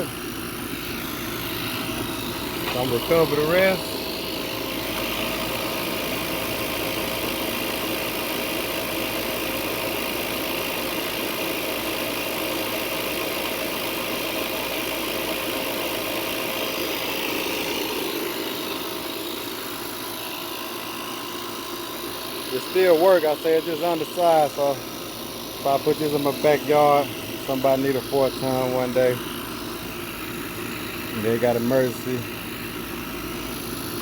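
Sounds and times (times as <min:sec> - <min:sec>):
refrigerant recovery machine running: 0:00.0 - 0:34.0.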